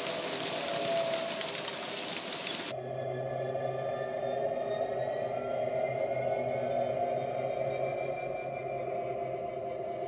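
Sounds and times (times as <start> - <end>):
faint rising whistling tones: 0.1 - 10.0.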